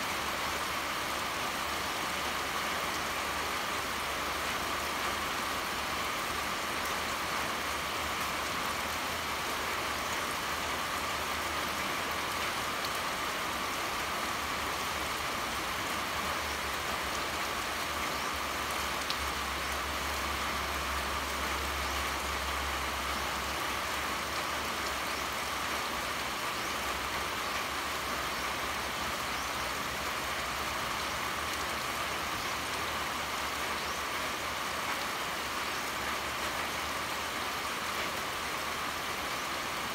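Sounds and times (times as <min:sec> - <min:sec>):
pouring rain: 0:00.0 - 0:39.9.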